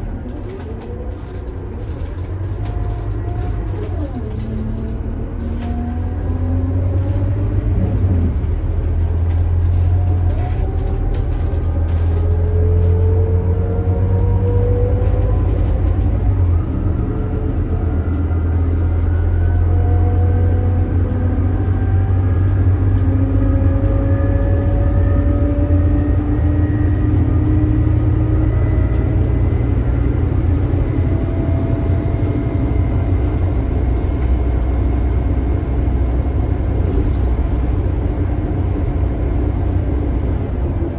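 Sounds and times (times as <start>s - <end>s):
bus engine drone with whine: 0.0s - 40.9s.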